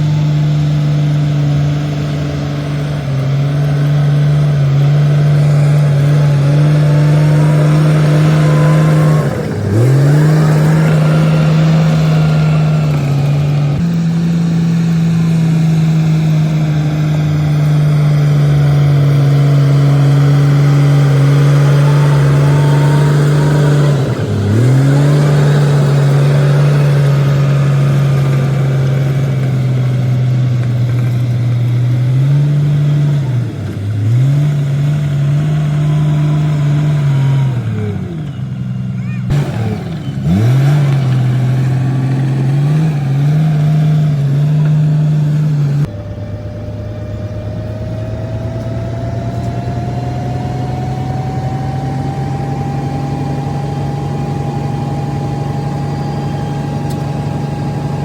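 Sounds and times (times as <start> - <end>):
bulldozer engine under load: 0.0 - 58.0
thin rising whine: 0.0 - 58.0.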